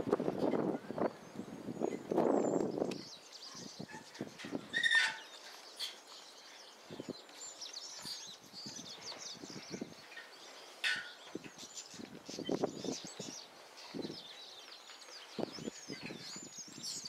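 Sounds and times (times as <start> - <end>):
faint high bird chirping: 0.4 - 17.0
harsh bird calls: 0.4 - 17.0.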